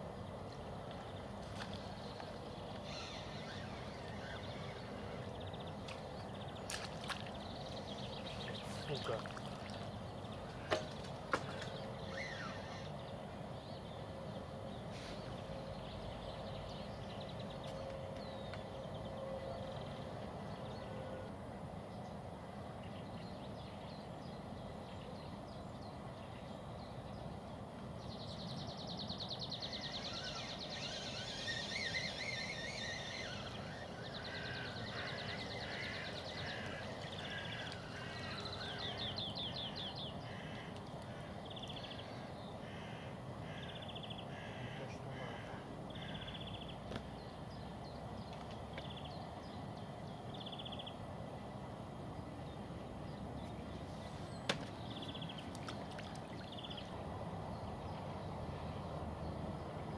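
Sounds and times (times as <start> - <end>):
songbirds trilling and warbling: 0.0 - 59.9.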